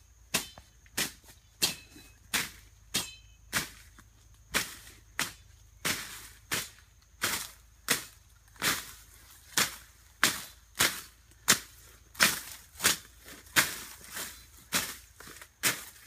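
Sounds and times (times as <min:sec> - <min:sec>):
machete swishing through grass: 0:00.3 - 0:16.0.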